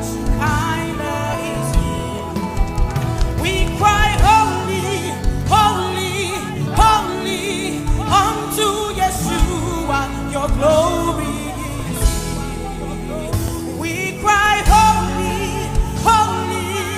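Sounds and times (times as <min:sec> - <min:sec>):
held chords: 0:00.0 - 0:16.9
person singing wordless runs: 0:00.0 - 0:16.9.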